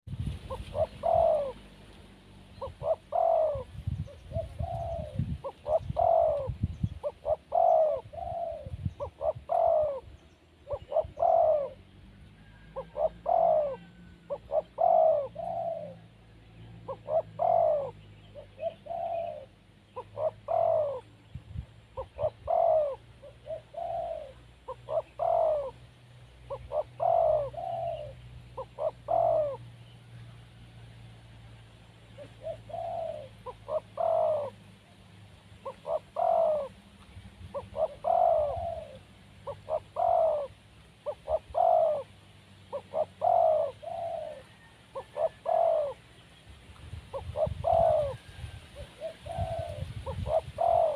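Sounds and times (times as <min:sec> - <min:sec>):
dove cooing: 0:00.0 - 0:46.3, 0:47.0 - 0:50.9.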